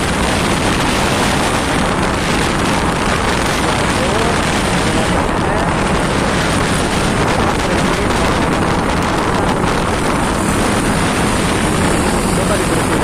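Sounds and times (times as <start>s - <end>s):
scooter engine: 0.0s - 13.0s
tyre noise on road: 0.0s - 13.0s
wind rush over microphone: 0.0s - 13.0s.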